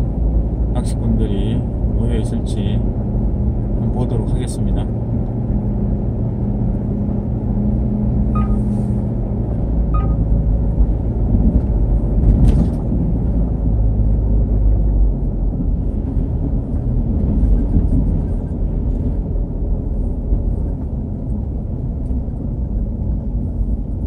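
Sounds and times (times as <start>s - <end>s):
car driving rumble: 0.0s - 24.0s.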